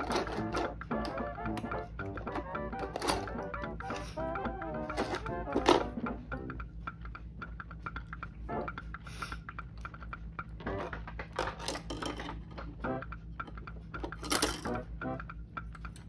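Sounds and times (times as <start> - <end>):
plastic parts clicking and rattling: 0.0 - 8.8, 9.8 - 14.9.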